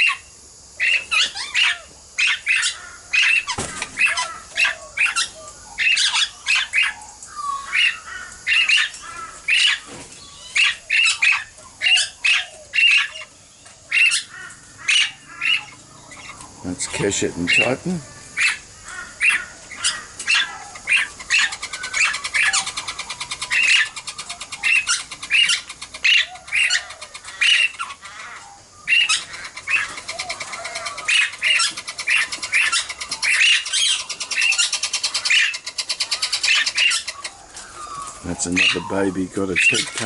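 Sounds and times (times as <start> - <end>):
parrots squawking: 0.0 - 0.2, 0.8 - 40.0
fast chattering of parrots: 0.8 - 40.0.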